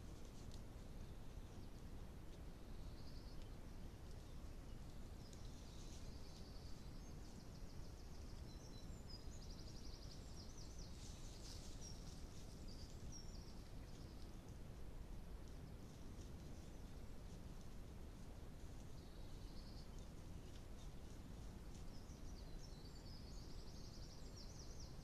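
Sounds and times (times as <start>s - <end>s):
low background hiss: 0.0s - 25.0s
songbirds singing: 0.0s - 25.0s.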